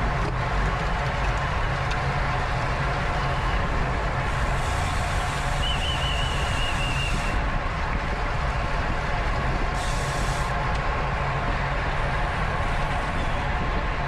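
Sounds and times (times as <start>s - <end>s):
bicycle road and drivetrain noise: 0.0s - 14.0s
wind rushing over microphone: 0.0s - 14.0s.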